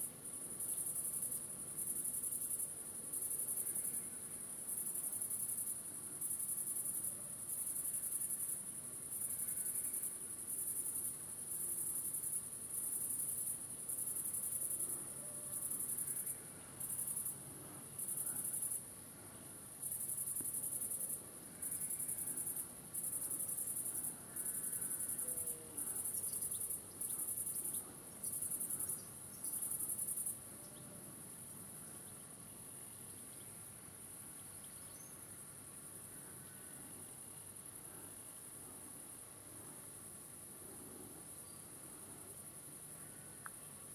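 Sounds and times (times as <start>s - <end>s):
insects buzzing song: 0.0s - 43.9s.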